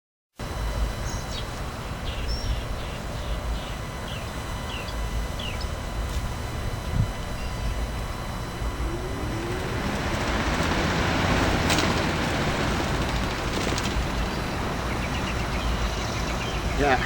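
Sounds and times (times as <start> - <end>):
steady low rumble: 0.5 - 17.0
bird chirping: 1.0 - 5.8, 7.3 - 17.0.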